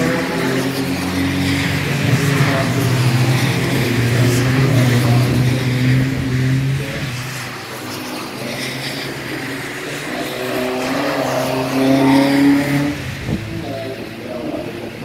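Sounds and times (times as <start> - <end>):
race cars passing: 0.0 - 15.0.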